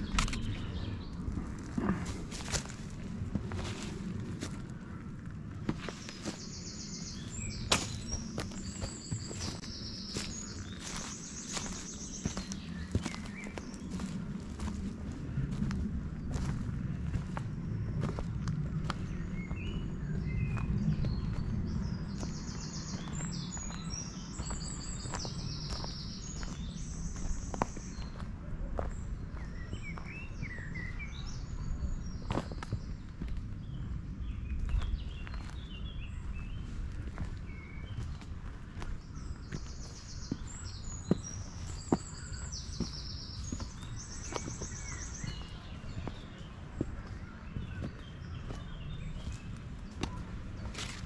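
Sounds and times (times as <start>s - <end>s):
songbirds singing: 0.0s - 51.0s
steady low rumble: 0.0s - 51.0s
footsteps crunching on gravel: 1.4s - 30.7s, 32.1s - 33.5s, 34.5s - 51.0s.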